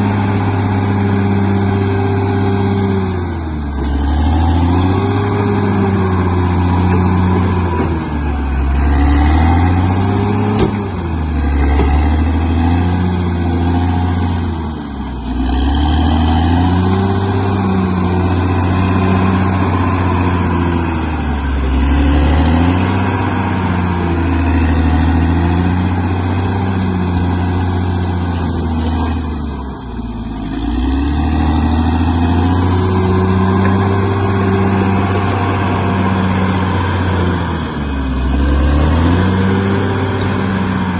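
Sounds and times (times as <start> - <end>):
bulldozer diesel engine working: 0.0 - 40.9.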